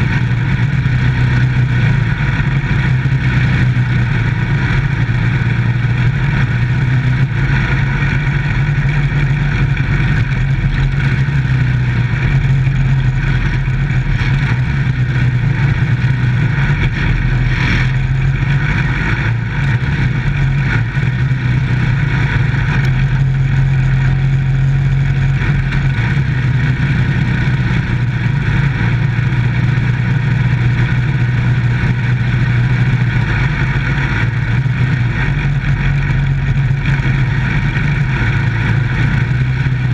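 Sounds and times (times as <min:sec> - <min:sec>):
race car engine running hard: 0:00.0 - 0:39.9
road and wind noise: 0:00.0 - 0:39.9.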